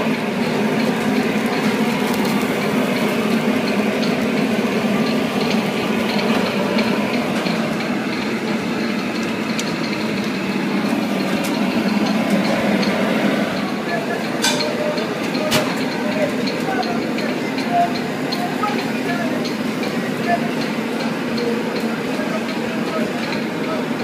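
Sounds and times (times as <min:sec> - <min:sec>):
kitchen mechanical hum: 0:00.0 - 0:24.0.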